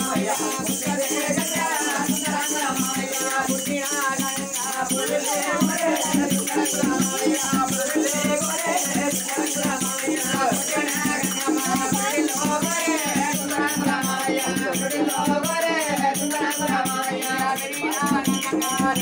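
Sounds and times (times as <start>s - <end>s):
drum beat: 0.0s - 19.0s
jingling hand percussion: 0.0s - 19.0s
people singing: 0.0s - 19.0s.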